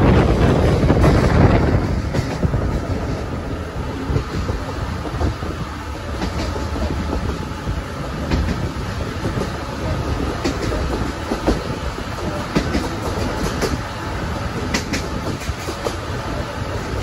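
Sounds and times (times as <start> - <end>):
rail joint clicks: 0.0 - 17.0
train wheels rumbling on rail: 0.0 - 17.0.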